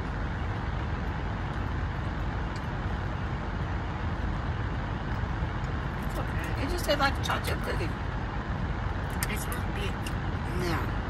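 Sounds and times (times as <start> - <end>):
car cabin rumble and hiss: 0.0 - 11.0.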